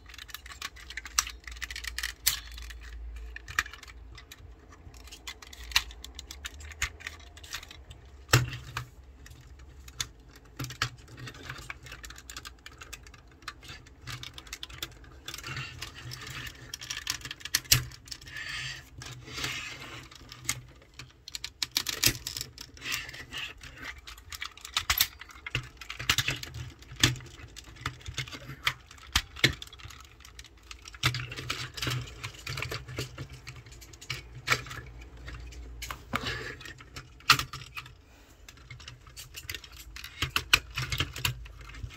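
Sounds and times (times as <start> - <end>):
plastic toy clicking and rattling: 0.0 - 41.9.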